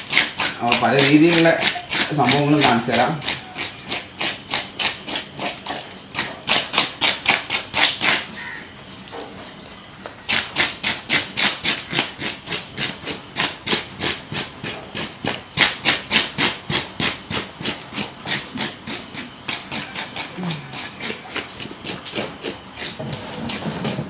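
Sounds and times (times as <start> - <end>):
knife scraping fish scales: 0.0 - 8.4, 10.3 - 24.0.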